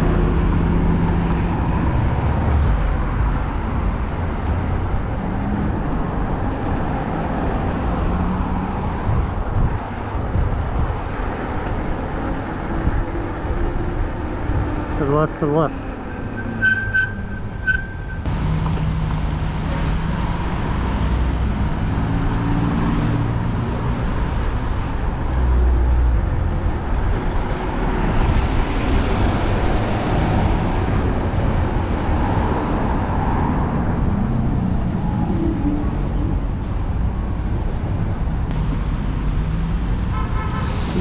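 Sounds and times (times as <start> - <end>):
motor vehicles passing: 0.0 - 41.0
tyre and road noise: 0.0 - 41.0.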